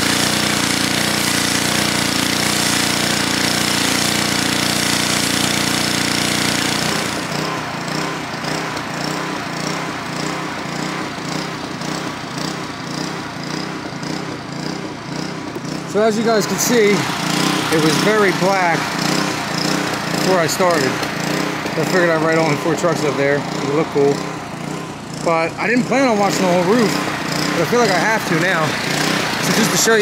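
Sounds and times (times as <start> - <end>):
water jet hissing: 0.0 - 12.5, 15.2 - 30.0
pressure washer motor hum: 0.0 - 30.0.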